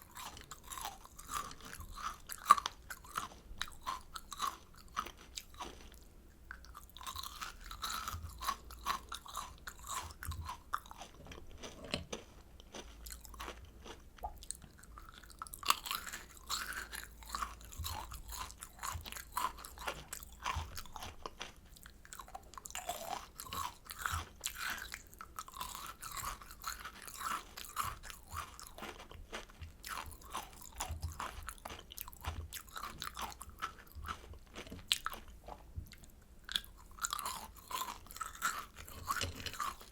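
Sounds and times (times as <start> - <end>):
chewing crunchy candy: 0.0 - 39.9.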